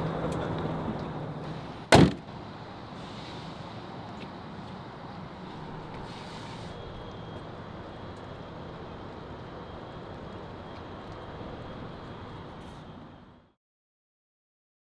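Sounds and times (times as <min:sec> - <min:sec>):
car road and engine noise: 0:00.0 - 0:13.6.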